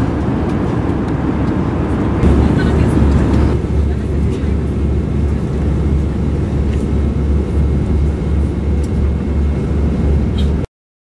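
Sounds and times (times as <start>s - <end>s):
airliner cabin rumble: 0.0s - 10.7s.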